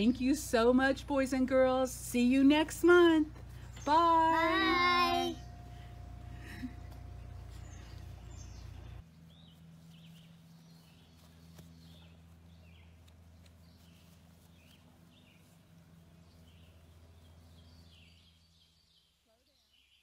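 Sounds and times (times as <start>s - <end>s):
steady low hum: 0.0s - 19.0s
small birds chirping: 0.0s - 20.0s.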